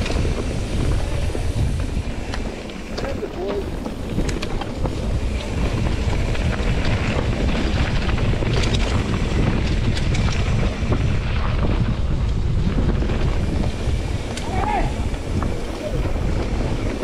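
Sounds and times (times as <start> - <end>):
bike clicks and rattles: 0.0 - 17.0
wind rumble on microphone: 0.0 - 17.0.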